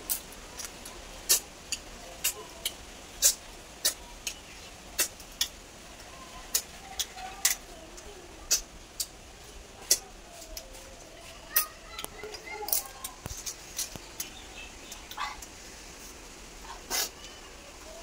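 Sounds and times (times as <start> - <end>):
person eating by hand: 0.0 - 5.6, 6.4 - 17.3.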